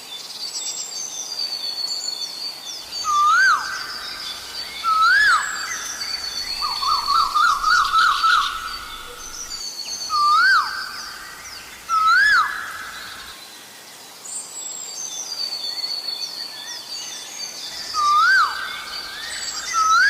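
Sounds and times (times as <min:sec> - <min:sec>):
small birds chirping faintly: 0:00.0 - 0:20.0.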